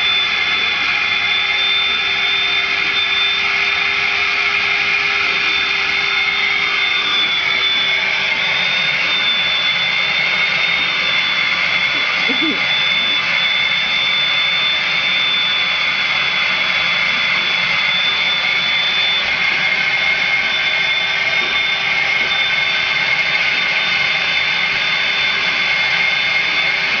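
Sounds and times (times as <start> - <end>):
vacuum cleaner whining: 0.0 - 27.0.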